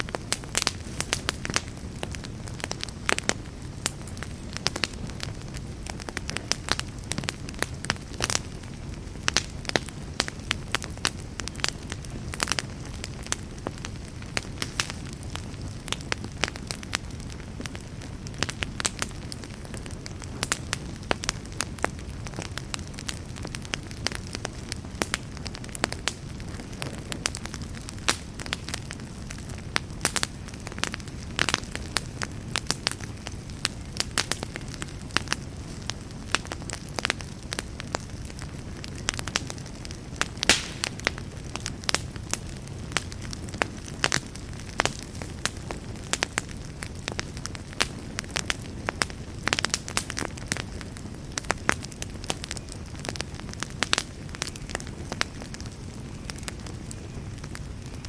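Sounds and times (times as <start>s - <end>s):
campfire crackles and pops: 0.0s - 58.0s
campfire rumbling: 0.0s - 58.0s.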